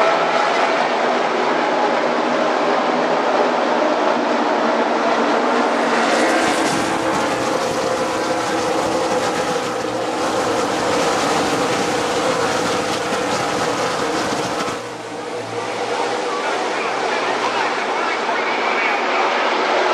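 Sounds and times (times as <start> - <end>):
race cars racing past: 0.0 - 19.9.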